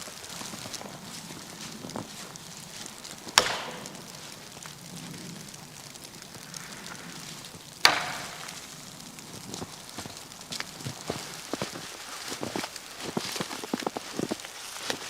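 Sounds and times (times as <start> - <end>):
steady background hiss: 0.0 - 15.0
faint small ticks: 0.1 - 15.0.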